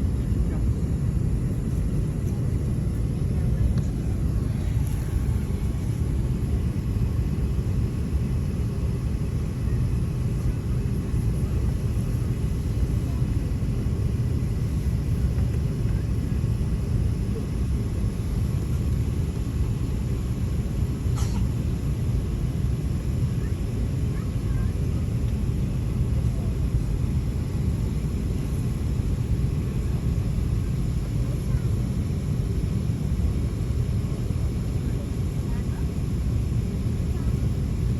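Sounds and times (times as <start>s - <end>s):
airliner cabin rumble: 0.0s - 37.9s.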